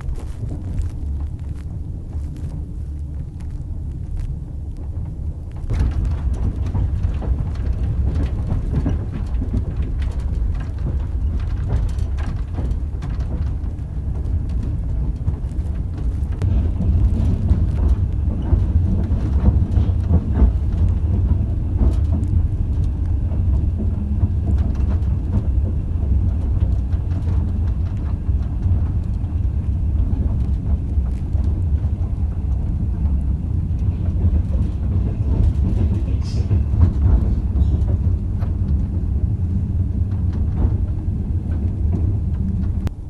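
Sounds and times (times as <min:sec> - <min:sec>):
train rumble: 0:00.0 - 0:43.0
wheels clicking over rails: 0:04.2 - 0:43.0.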